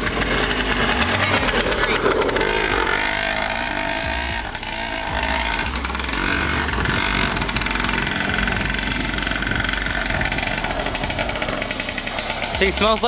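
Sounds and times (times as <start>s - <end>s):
two-stroke dirt bike engine revving: 0.0s - 13.0s.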